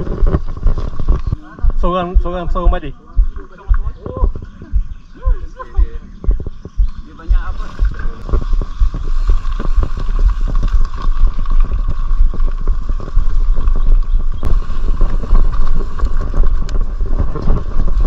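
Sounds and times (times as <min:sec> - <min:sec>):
bike rattling over rough ground: 0:00.0 - 0:02.9, 0:06.0 - 0:18.0
wind rumble on microphone: 0:00.0 - 0:18.0.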